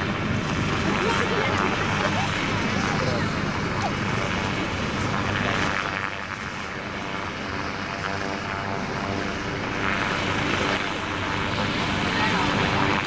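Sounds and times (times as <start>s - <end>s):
helicopter rotor and turbine: 0.0s - 13.0s.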